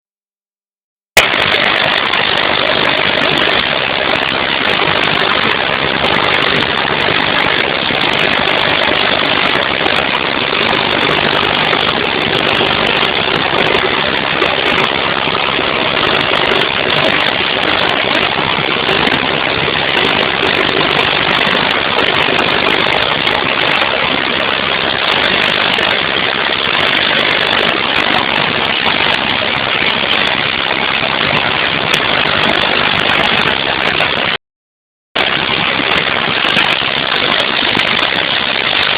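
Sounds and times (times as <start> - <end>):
pressure washer engine and pump: 1.2 - 34.4, 35.2 - 38.9.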